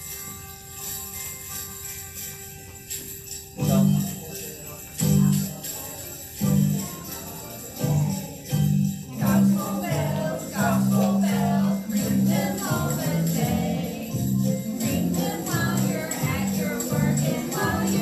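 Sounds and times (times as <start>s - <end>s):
jingle bells shaking: 0.0s - 18.0s.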